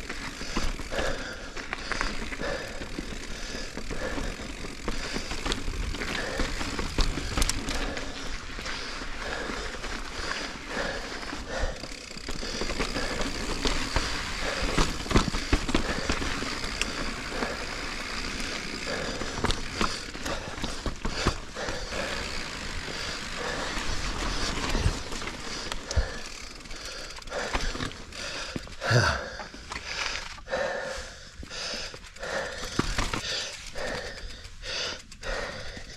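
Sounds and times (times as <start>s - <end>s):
bike knocking and rattling: 0.0s - 35.9s
bike tyre and wind noise: 0.0s - 35.9s.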